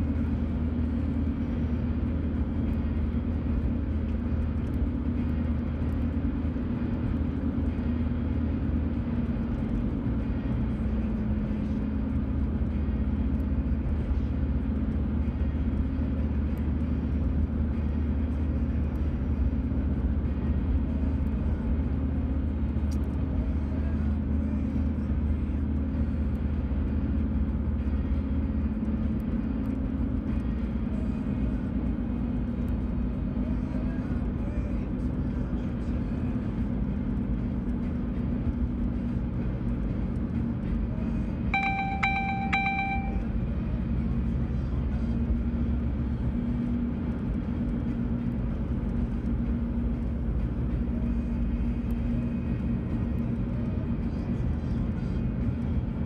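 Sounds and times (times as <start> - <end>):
car interior engine and tyre noise: 0.0 - 56.0.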